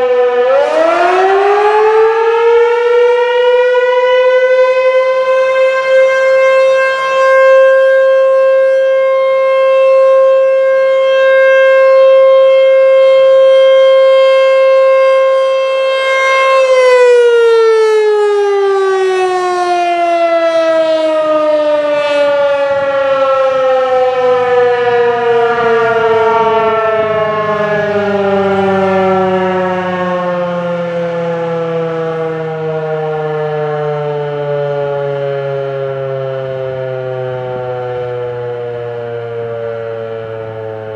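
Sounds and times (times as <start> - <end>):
warning siren winding down: 0.0 - 40.9.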